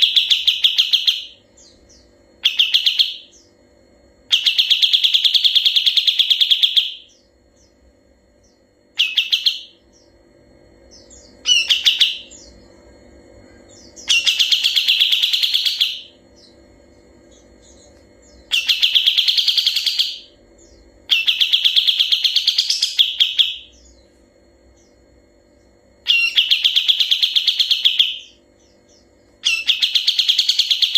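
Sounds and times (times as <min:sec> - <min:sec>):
bird singing fast trills: 0:00.0 - 0:30.9.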